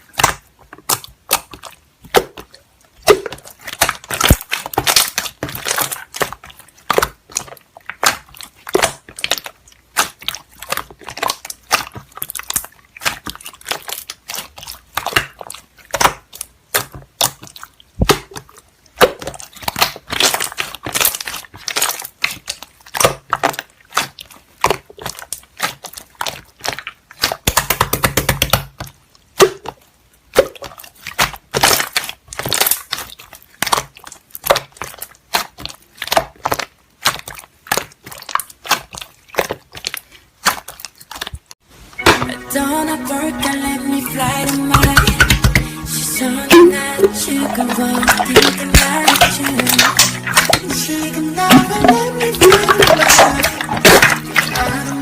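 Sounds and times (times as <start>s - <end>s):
slime crackling and popping: 0.0s - 42.3s, 44.2s - 55.0s.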